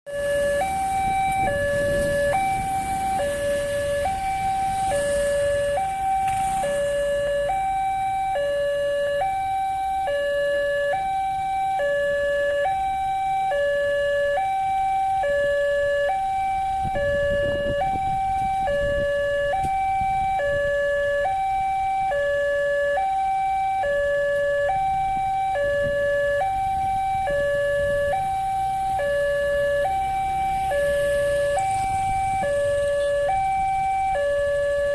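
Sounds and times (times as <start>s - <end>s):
level crossing two-tone alarm: 0.1s - 34.9s
low road traffic rumble: 0.1s - 34.9s.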